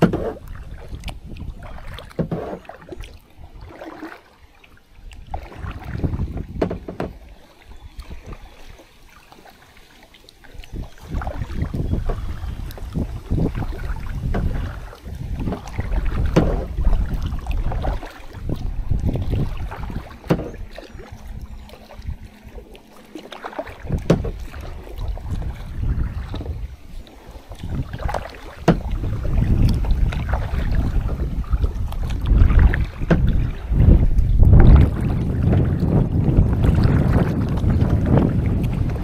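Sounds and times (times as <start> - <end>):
wind rumbling on microphone: 0.0 - 3.9, 5.0 - 8.8, 10.5 - 22.8, 23.6 - 39.0
paddle strokes splashing water: 0.0 - 39.0.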